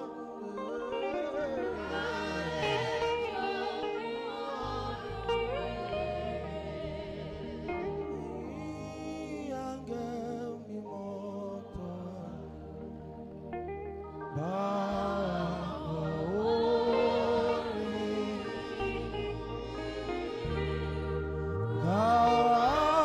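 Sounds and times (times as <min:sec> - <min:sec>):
sustained low accompaniment: 0:00.0 - 0:23.0.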